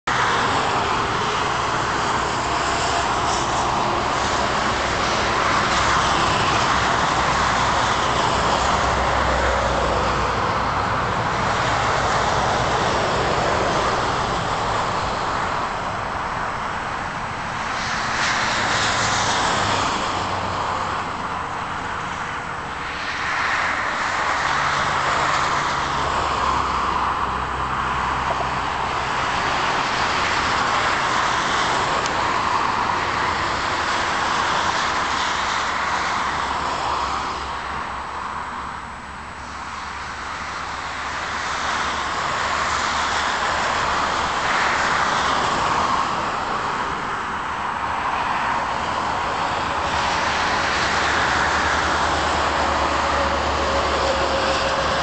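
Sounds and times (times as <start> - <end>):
jet engines at takeoff thrust: 0.1 - 55.0.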